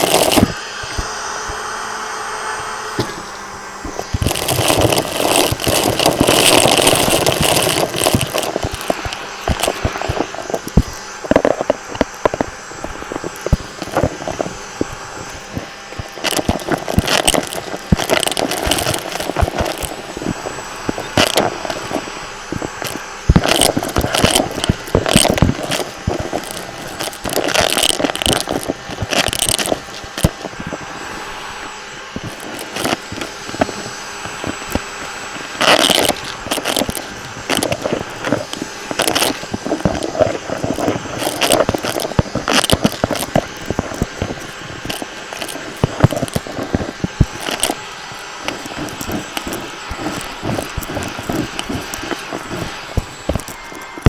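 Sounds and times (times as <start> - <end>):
debris crackling in vacuum head: 0.0 - 54.0
vacuum cleaner running: 0.0 - 54.0.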